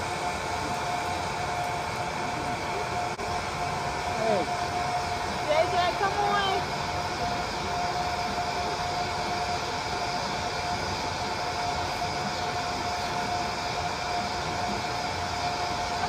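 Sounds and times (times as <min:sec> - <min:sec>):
small fan motor whirring: 0:00.0 - 0:16.0.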